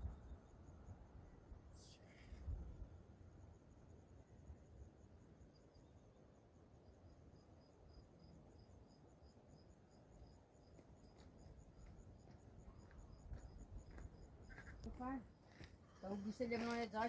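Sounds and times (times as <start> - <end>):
faint crickets chirping: 0.0 - 17.0.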